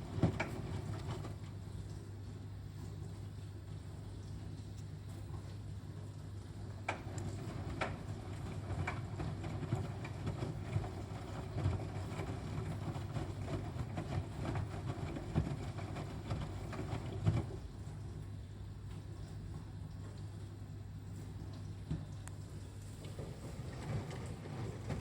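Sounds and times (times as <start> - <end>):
washing machine hum: 0.0 - 25.0.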